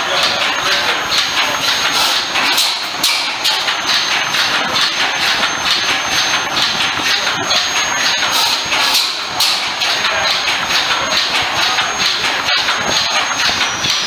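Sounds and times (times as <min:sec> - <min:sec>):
stationary engine knocking steadily: 0:00.0 - 0:14.0.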